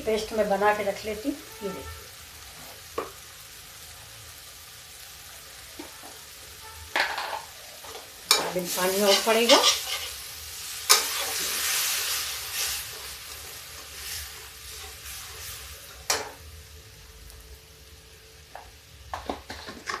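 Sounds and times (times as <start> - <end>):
water sizzling in hot pan: 0.0 - 20.0.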